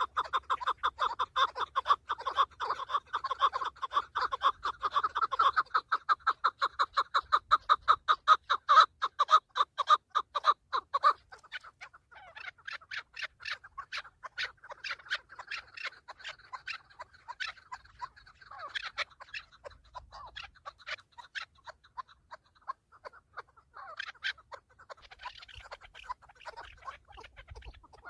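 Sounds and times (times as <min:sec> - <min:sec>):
partridges clucking calls: 0:00.0 - 0:28.0.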